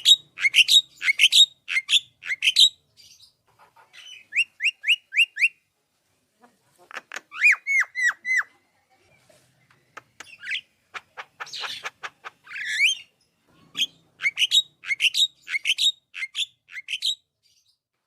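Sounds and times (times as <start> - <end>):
bird singing varied song: 0.0 - 5.7, 7.3 - 18.0.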